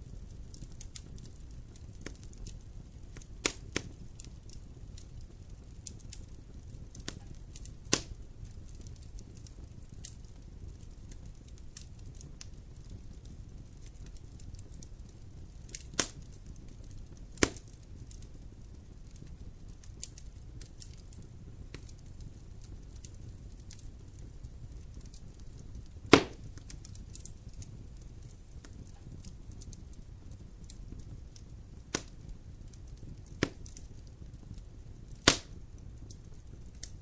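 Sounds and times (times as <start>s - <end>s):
fire crackling: 0.0s - 37.0s
low rumble of flame: 0.0s - 37.0s
sharp pops of fire: 0.0s - 37.0s.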